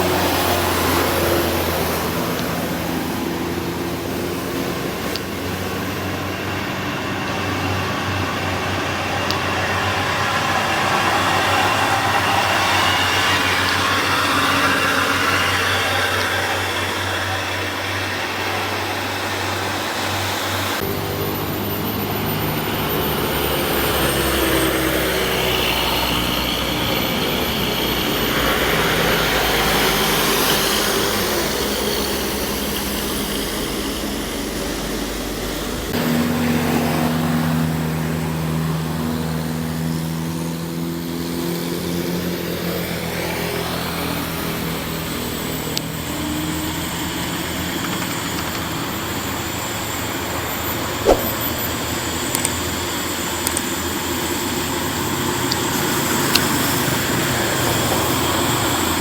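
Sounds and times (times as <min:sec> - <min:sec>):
heavy truck engines droning: 0:00.0 - 0:59.0.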